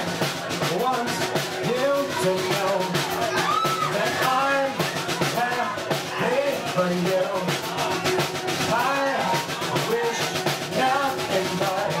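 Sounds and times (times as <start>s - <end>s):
drum kit: 0.0s - 12.0s.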